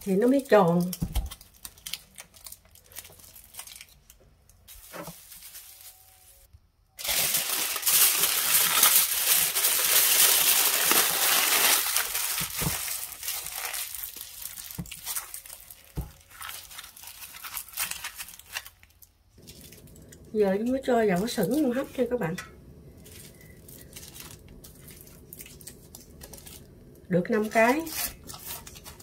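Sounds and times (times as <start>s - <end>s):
aluminium foil crinkling: 0.0s - 29.0s.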